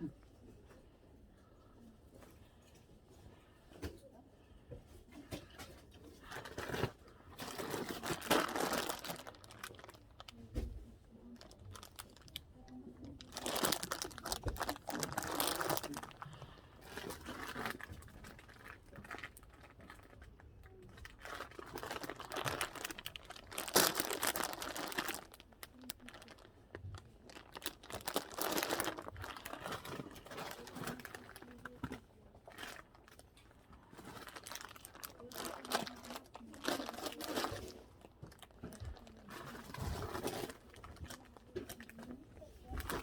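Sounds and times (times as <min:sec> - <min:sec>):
material rustling and crinkling: 0:05.2 - 0:43.0.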